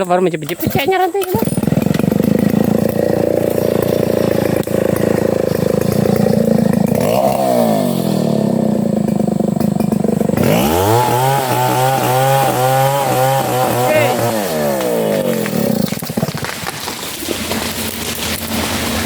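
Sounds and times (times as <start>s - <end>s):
chainsaw cutting wood: 0.4s - 19.0s.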